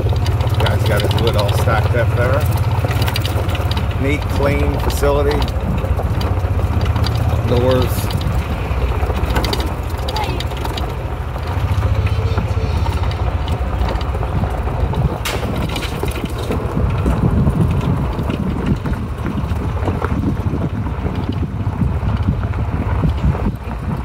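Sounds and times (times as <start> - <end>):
cart rattling: 0.0 - 24.0
tyres crackling on gravel: 0.0 - 24.0
wind buffeting microphone: 0.0 - 24.0.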